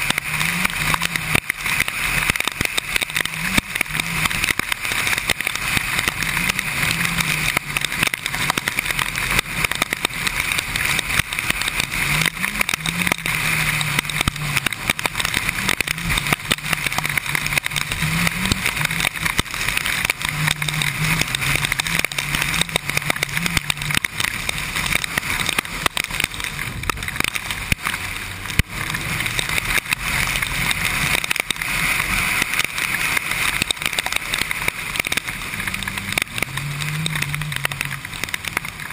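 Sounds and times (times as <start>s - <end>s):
motorcycle engine: 0.0s - 38.9s
raindrops ticking on camera: 0.0s - 38.9s.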